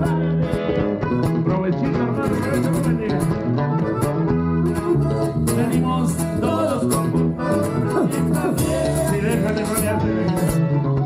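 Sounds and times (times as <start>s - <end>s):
accordion: 0.0s - 11.0s
bass line: 0.0s - 11.0s
guitar: 0.0s - 11.0s.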